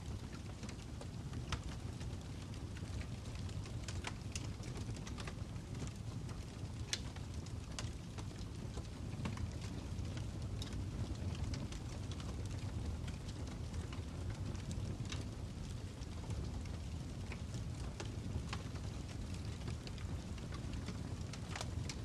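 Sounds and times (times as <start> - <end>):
fire crackling: 0.0 - 22.0
low rumble of flames: 0.0 - 22.0
pops and snaps of fire: 0.2 - 22.0.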